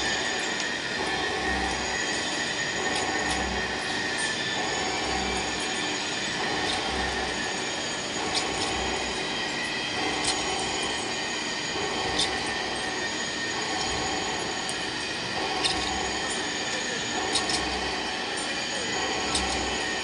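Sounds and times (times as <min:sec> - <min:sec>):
metal lathe whining: 0:00.0 - 0:20.0.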